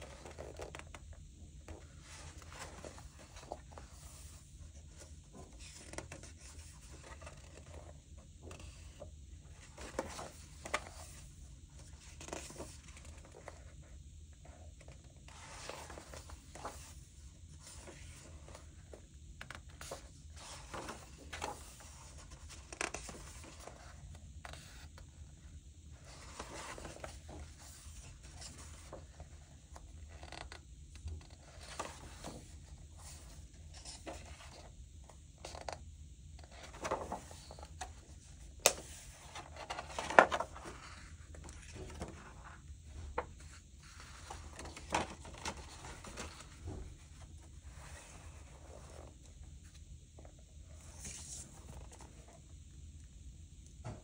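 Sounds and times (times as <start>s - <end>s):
book pages turning: 0.0s - 13.8s, 14.8s - 25.0s, 26.0s - 34.7s, 36.4s - 49.2s, 50.7s - 52.4s.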